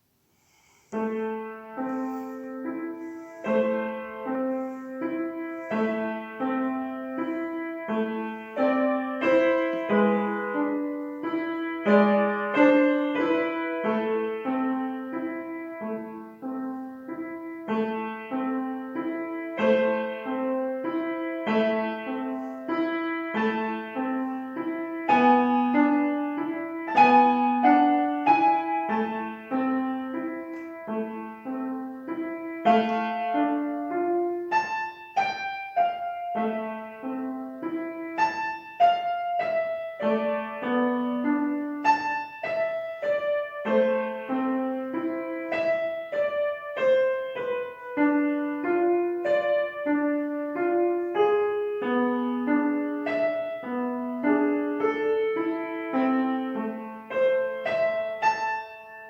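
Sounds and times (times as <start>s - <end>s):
slow solo piano: 0.0s - 59.0s.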